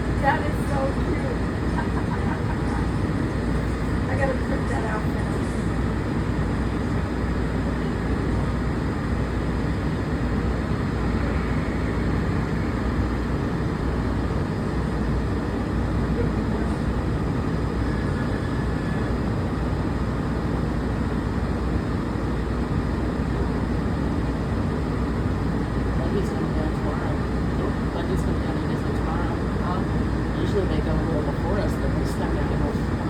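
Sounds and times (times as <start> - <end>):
monorail train rumbling: 0.0 - 33.0.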